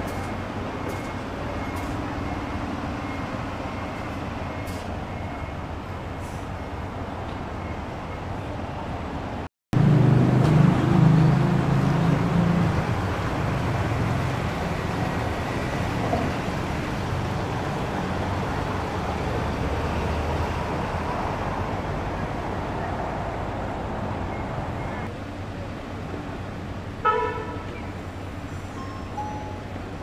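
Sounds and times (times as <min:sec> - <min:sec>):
bus diesel engine drone: 0:00.0 - 0:30.0
street traffic noise: 0:00.0 - 0:30.0.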